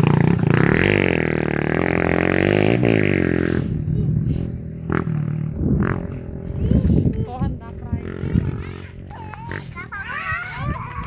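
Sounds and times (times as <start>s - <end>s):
dirt bikes revving past: 0.0s - 11.0s.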